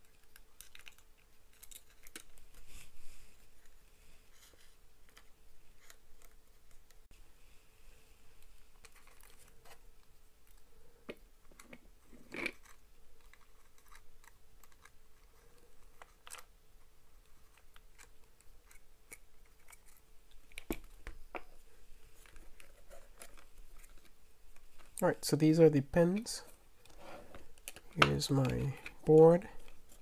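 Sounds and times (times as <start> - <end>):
hands handling plastic parts: 0.0 - 3.8, 8.4 - 25.0, 26.0 - 30.0.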